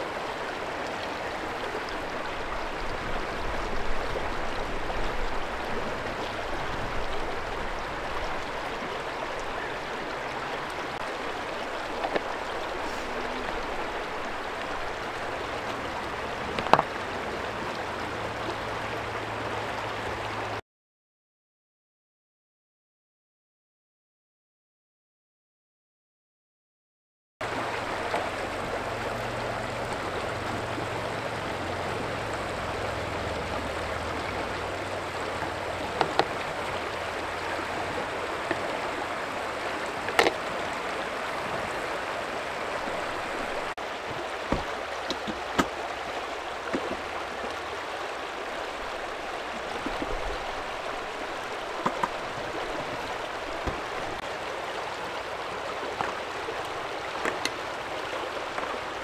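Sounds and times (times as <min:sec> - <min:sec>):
stream running over stones: 0:00.0 - 0:20.6, 0:27.4 - 0:59.0.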